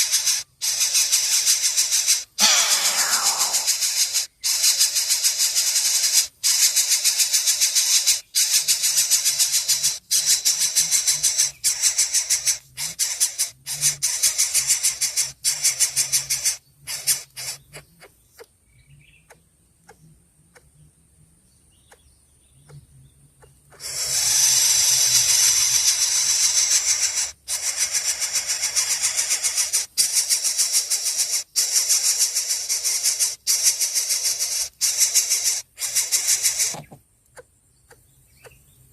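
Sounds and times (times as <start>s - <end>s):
baby bird begging calls: 0.0s - 18.5s, 23.7s - 38.6s.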